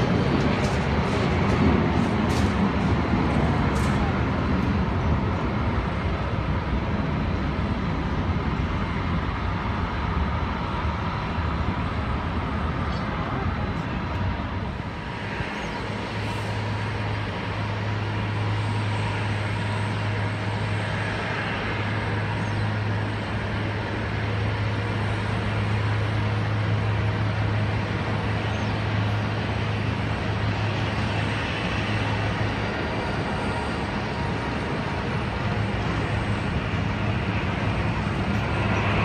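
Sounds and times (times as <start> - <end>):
jet aircraft noise: 0.0 - 39.0.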